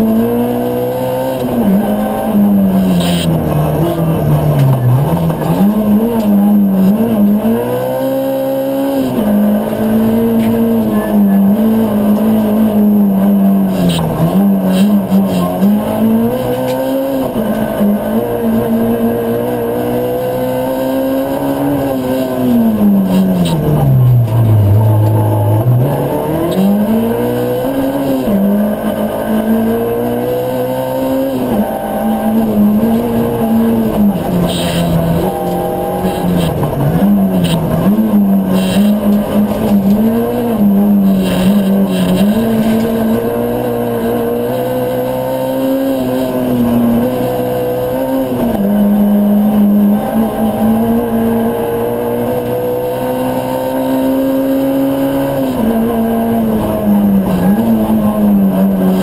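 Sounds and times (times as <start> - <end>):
rally car engine revving through gears: 0.0 - 59.0.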